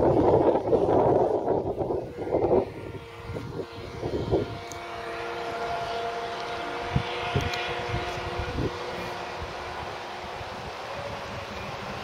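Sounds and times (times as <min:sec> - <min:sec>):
rc speedboat engine droning: 0:00.0 - 0:12.0.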